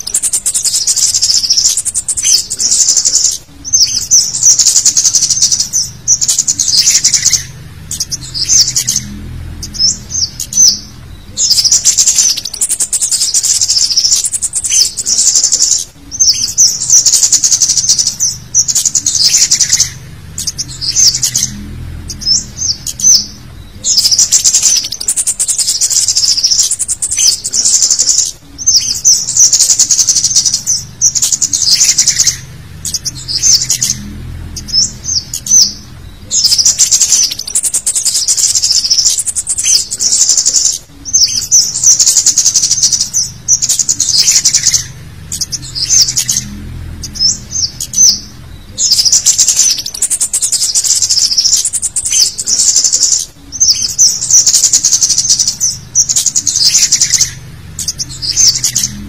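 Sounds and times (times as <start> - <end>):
bird chittering chip notes: 0.0 - 59.0.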